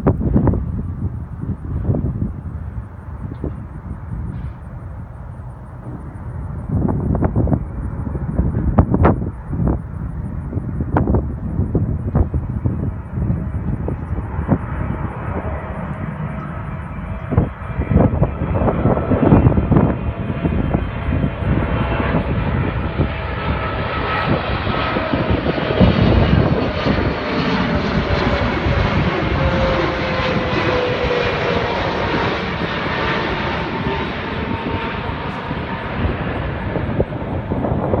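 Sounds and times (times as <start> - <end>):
jet airliner roar passing overhead: 0.0 - 38.0
whining engine tones: 0.0 - 38.0.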